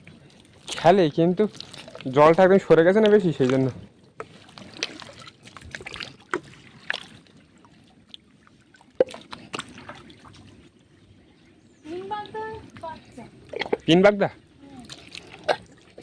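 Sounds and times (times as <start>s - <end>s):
water splashing and dripping: 0.0s - 16.0s.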